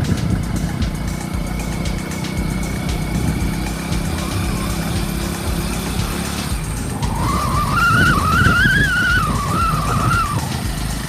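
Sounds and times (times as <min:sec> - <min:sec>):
car engine and road noise: 0:00.0 - 0:11.0
high wavering whistle tone: 0:00.0 - 0:11.0.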